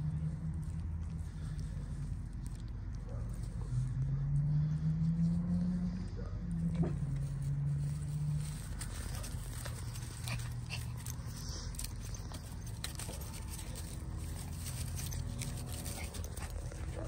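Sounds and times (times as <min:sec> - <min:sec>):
rustling: 0:00.0 - 0:05.9, 0:06.6 - 0:17.0.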